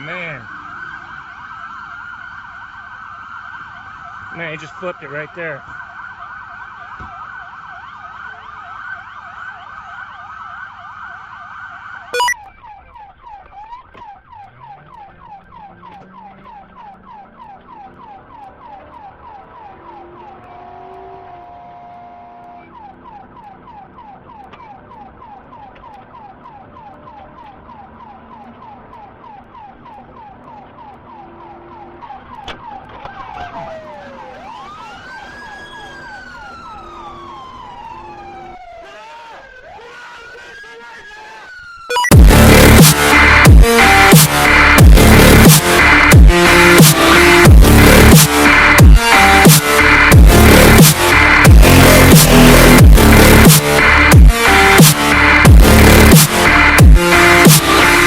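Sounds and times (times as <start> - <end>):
police siren: 0.0 - 58.0.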